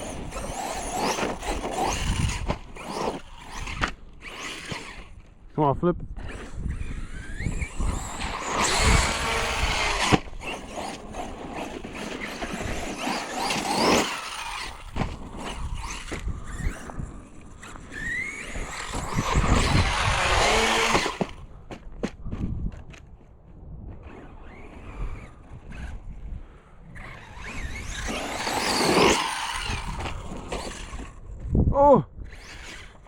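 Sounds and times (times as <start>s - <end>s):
electric motor whining: 0.0s - 5.3s, 6.1s - 21.5s, 24.0s - 26.1s, 26.9s - 31.3s
tyre and ground noise: 0.0s - 33.0s.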